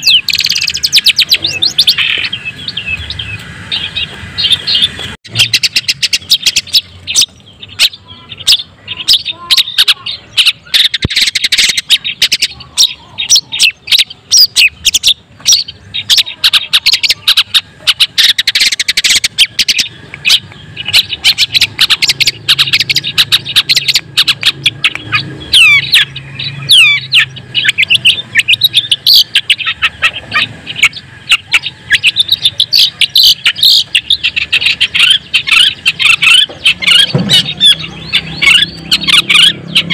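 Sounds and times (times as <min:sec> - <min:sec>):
bird chattering and whistling: 0:00.0 - 0:39.9.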